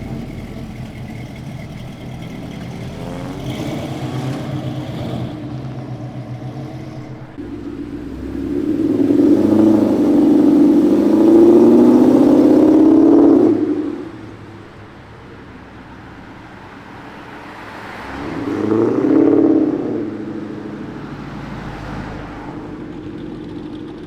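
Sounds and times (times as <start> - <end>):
car accelerating hard past: 0.0 - 15.0, 16.9 - 24.0
car engines running: 0.0 - 24.0.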